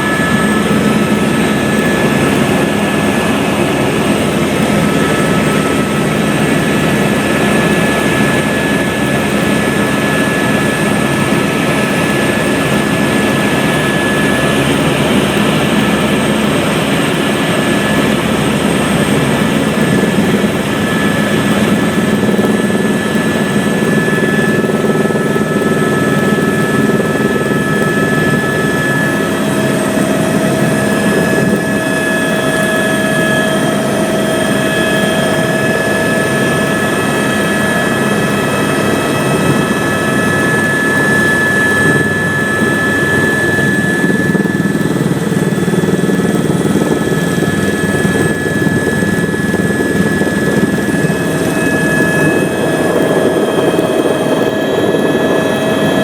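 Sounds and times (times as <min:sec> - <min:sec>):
helicopter turbine whine: 0:00.0 - 0:56.0
rotor drone: 0:00.0 - 0:56.0.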